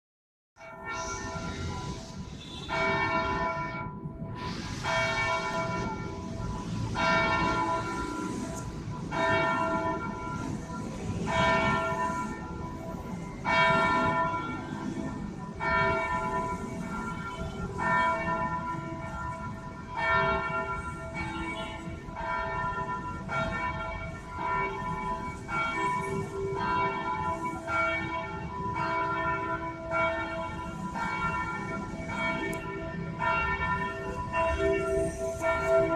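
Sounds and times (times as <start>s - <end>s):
church bell tolling: 0.6s - 35.9s.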